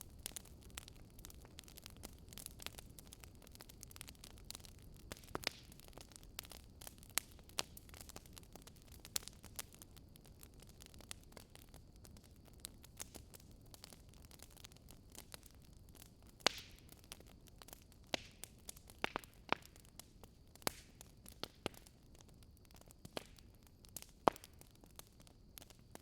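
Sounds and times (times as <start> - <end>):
fire crackling: 0.0 - 26.0.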